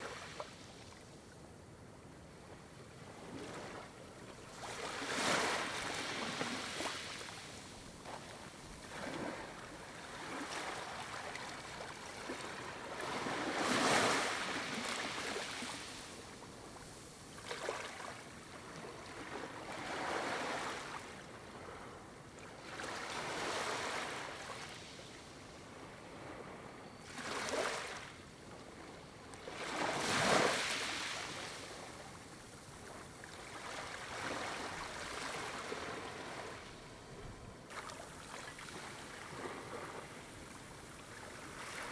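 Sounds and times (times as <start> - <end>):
wind: 0.0 - 41.9.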